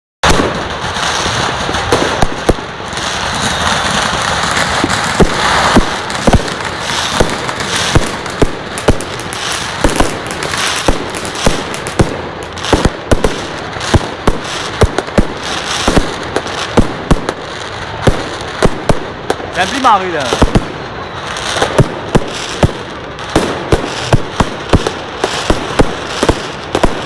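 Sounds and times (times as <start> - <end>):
fireworks crackling and banging: 0.2 - 27.0.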